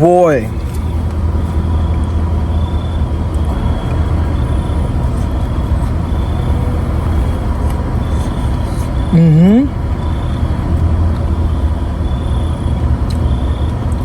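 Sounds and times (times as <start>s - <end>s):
faint steady hum: 0.0s - 14.0s
vehicle engine idling: 0.0s - 14.0s.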